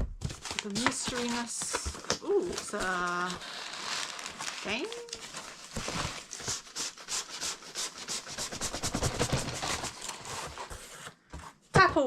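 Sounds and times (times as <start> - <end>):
packaging scratching and rubbing: 0.2 - 11.2.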